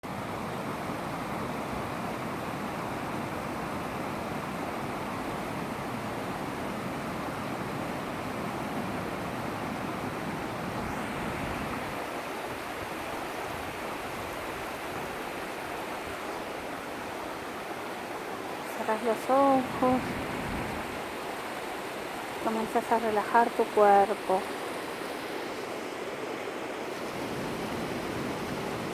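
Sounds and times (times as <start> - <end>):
running water rushing: 0.1 - 28.9.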